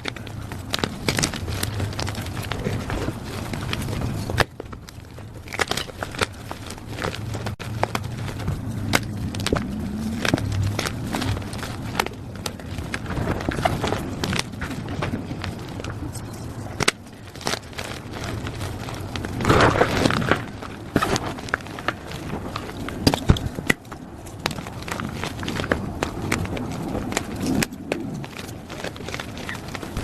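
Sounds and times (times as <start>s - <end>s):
chalk crunching and crackling: 0.0s - 30.0s.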